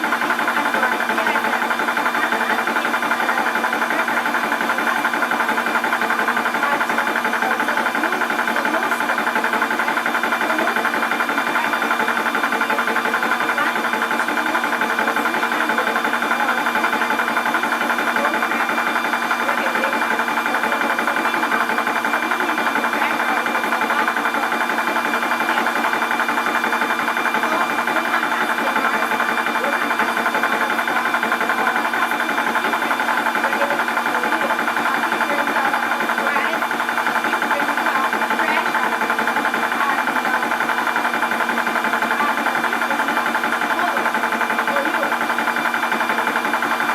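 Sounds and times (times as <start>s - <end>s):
air compressor pulsing: 0.0s - 46.9s.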